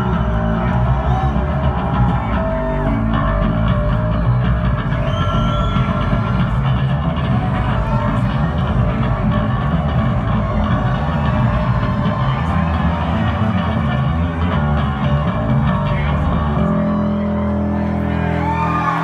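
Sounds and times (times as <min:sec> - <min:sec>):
electric bass guitar solo: 0:00.0 - 0:19.0.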